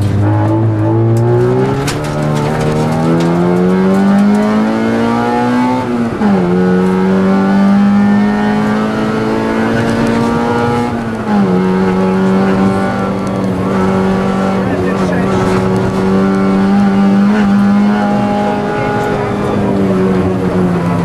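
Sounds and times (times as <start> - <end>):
rally car engine revving through gears: 0.0 - 21.0.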